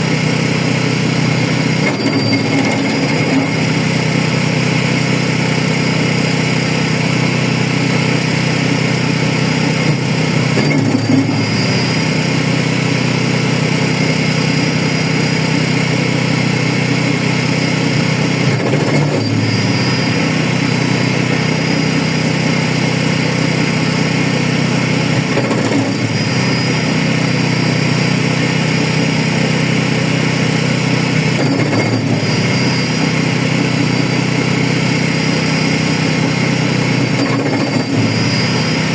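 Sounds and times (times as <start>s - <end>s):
wood chipper running: 0.0s - 38.9s.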